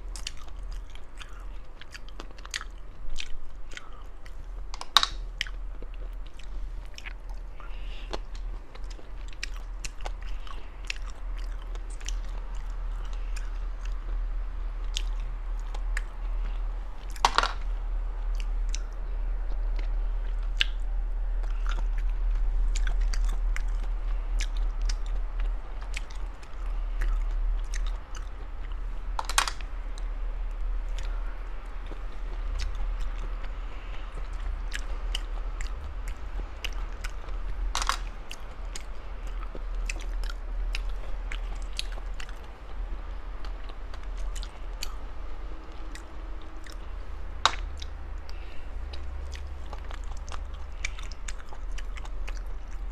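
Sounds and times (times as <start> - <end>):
chewing and biting sea snails: 0.0 - 52.9.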